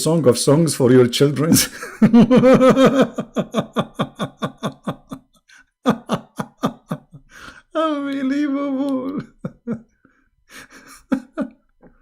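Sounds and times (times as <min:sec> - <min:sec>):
man laughing: 0:01.5 - 0:09.9, 0:10.5 - 0:12.0.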